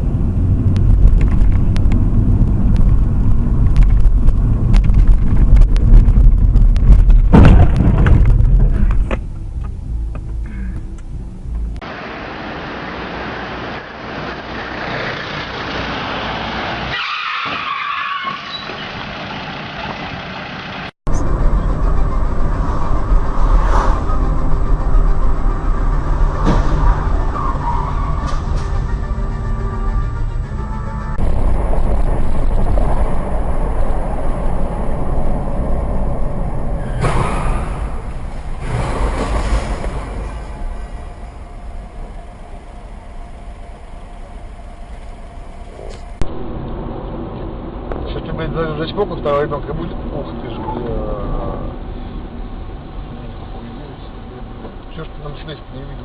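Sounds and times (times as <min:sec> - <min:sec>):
car road and engine noise: 0:00.0 - 0:56.0
tyres skidding: 0:00.0 - 0:56.0.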